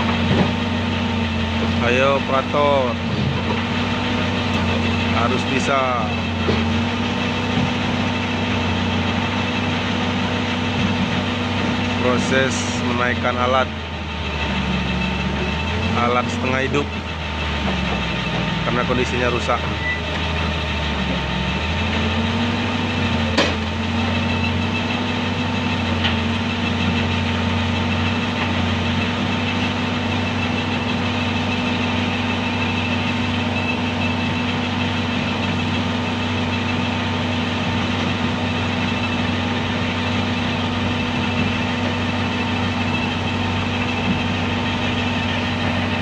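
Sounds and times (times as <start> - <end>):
excavator diesel engine under load: 0.0 - 46.0.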